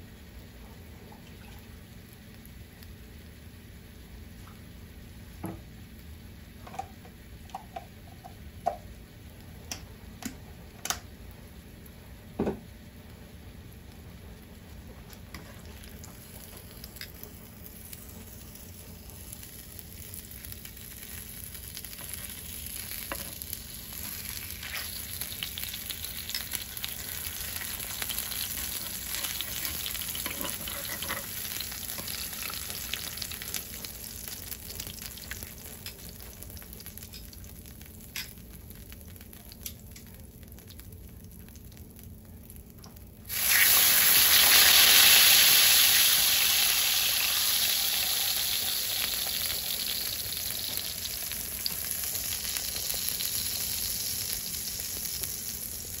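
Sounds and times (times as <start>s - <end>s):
tortillas sizzling in hot oil: 10.6s - 56.0s.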